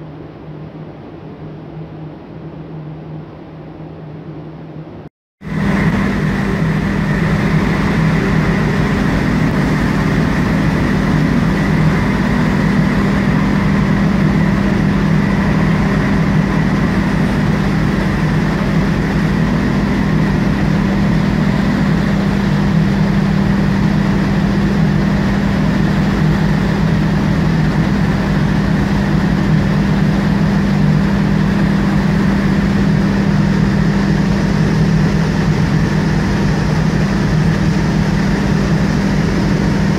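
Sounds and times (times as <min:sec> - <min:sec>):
diesel engines droning: 0:05.4 - 0:39.9.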